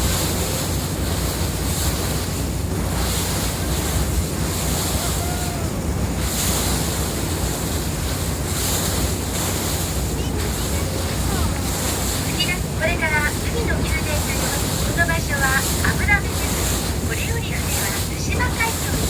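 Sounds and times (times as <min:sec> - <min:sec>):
boat engine hum: 0:00.0 - 0:19.0
water rushing past hull: 0:00.0 - 0:19.0
wind buffeting microphone: 0:00.0 - 0:19.0.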